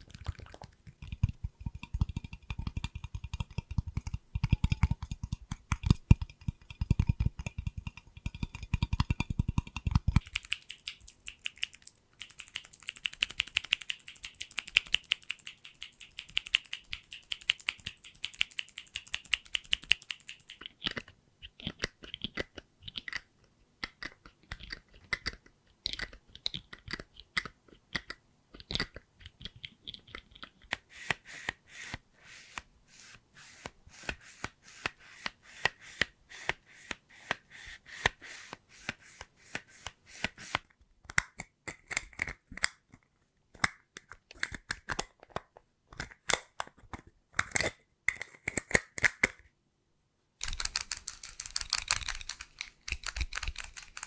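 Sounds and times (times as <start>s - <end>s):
clicks and taps on small objects: 0.0s - 49.5s, 50.4s - 54.0s.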